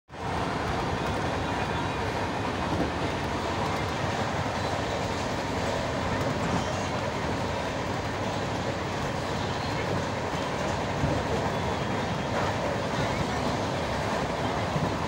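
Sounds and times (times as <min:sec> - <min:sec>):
train wheels rumbling on rails: 0:00.1 - 0:15.0.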